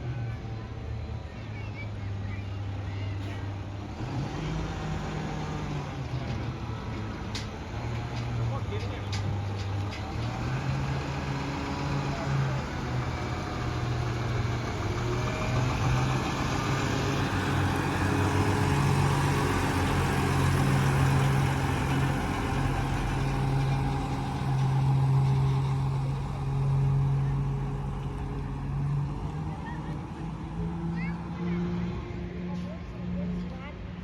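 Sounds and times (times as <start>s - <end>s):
truck engine running: 0.4s - 34.0s.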